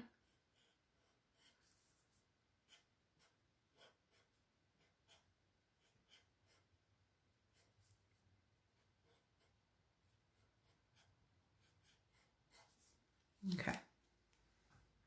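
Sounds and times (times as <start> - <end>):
marker scratching on paper: 0.2 - 6.8, 7.4 - 13.0.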